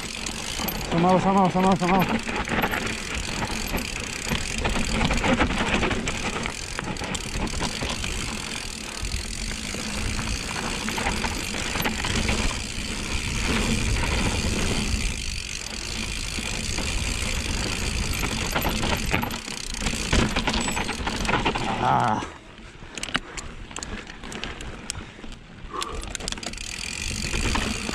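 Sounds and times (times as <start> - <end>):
freewheel ratchet clicking: 0.0 - 21.6, 25.8 - 27.9
bike frame rattling: 0.0 - 27.9
bike tyres crunching over dirt: 0.0 - 27.9
low rumble from rough ground: 0.0 - 27.9.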